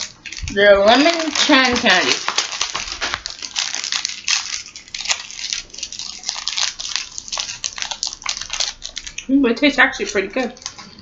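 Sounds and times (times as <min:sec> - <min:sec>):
plastic candy wrappers crinkling: 0:00.0 - 0:11.0.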